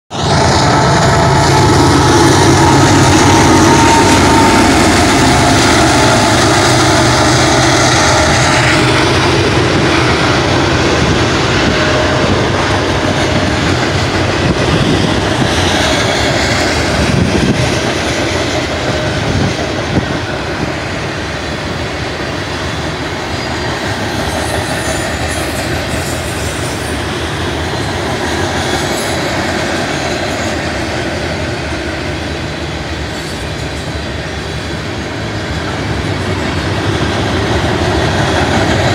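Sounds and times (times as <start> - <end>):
diesel locomotive drone: 0.1 - 38.9
train wheels rumbling on rail: 0.1 - 38.9.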